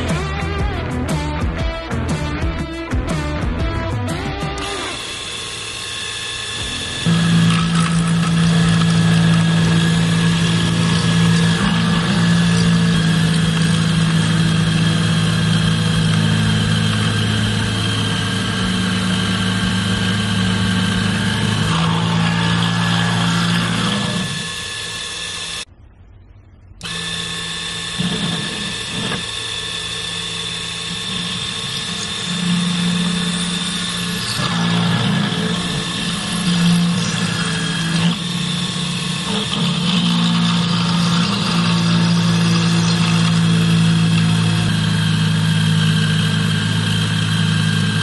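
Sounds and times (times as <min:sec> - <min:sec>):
mill cutting metal plate: 0:04.3 - 0:25.7, 0:26.8 - 0:48.0.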